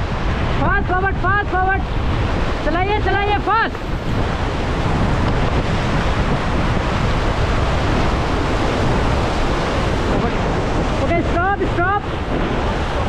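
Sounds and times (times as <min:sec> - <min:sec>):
river water rushing: 0:00.0 - 0:13.0
wind noise on microphone: 0:00.0 - 0:13.0.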